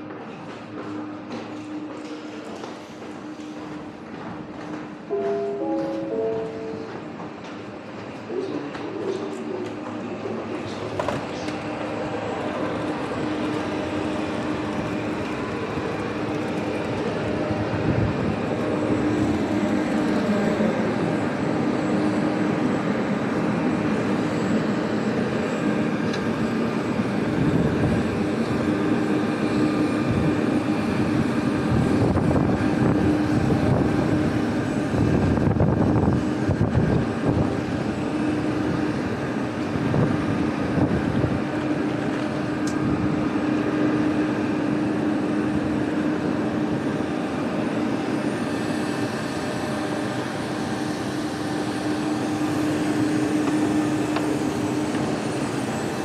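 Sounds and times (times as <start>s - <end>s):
jet airliners droning: 0.0s - 56.0s.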